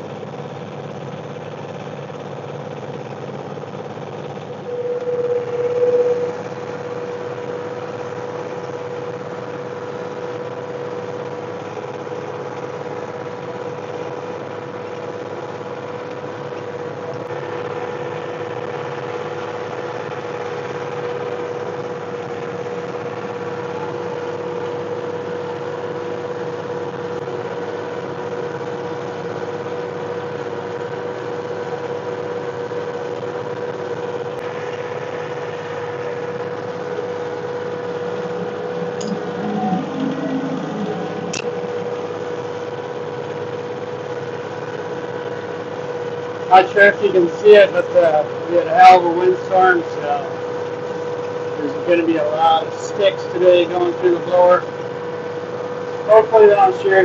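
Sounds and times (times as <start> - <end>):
steady whine: 0.0 - 57.0
tractor diesel engine running: 0.0 - 57.0.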